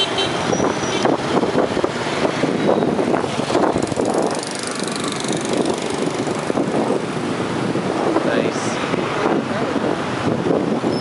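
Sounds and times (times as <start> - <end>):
cars passing: 0.0 - 11.0
motorbike and scooter engines: 0.0 - 11.0.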